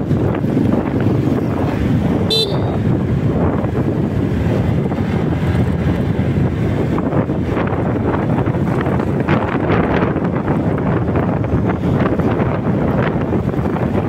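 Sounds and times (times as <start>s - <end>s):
road noise: 0.0s - 14.0s
wind buffeting microphone: 0.0s - 14.0s.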